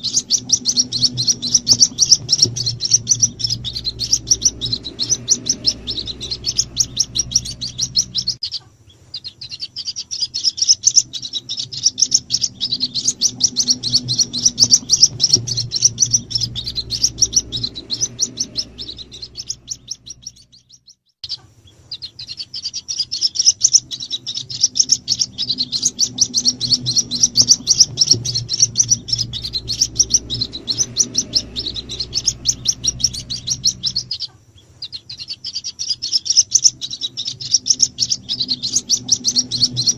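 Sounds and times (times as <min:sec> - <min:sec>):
bird chicks peeping: 0:00.0 - 0:39.9.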